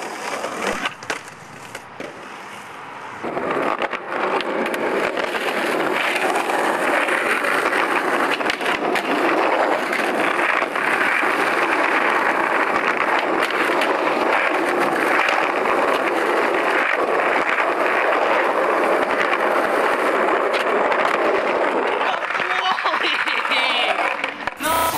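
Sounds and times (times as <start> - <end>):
skateboard clacks: 0.0 - 24.9
skateboard wheels rolling on concrete: 0.0 - 24.9.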